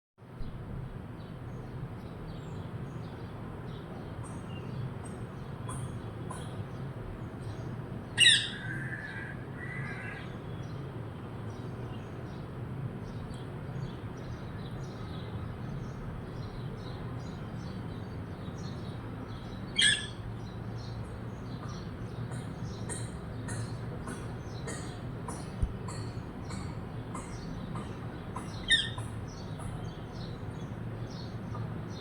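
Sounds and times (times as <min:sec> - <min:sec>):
low background hum: 0:00.3 - 0:32.0
small birds chirping: 0:01.2 - 0:32.0.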